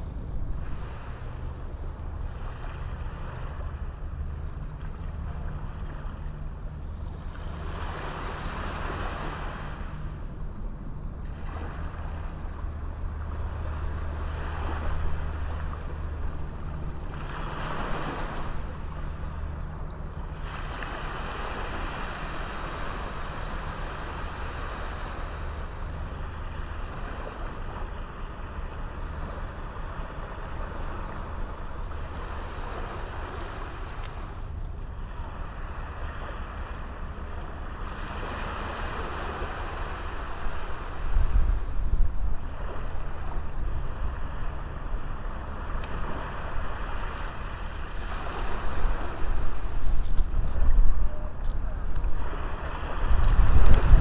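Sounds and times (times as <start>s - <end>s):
low wind rumble: 0.0s - 54.0s
waves breaking on beach: 0.0s - 54.0s.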